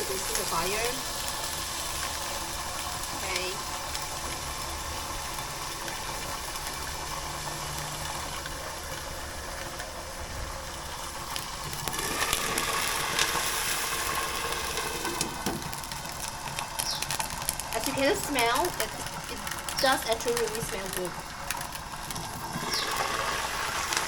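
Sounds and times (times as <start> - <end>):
low hum of gas flame: 0.0 - 24.0
sharp crackling pops: 0.0 - 24.0
worms sizzling in hot oil: 0.0 - 24.0.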